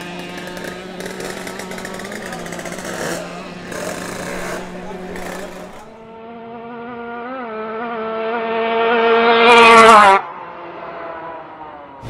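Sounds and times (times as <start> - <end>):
motorcycle at full throttle: 0.0 - 12.0.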